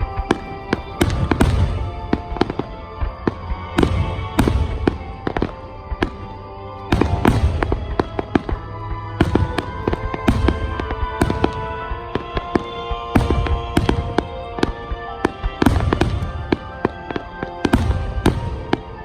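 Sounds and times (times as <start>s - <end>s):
fireworks booms and bangs: 0.0s - 19.0s
music playing: 0.0s - 19.0s.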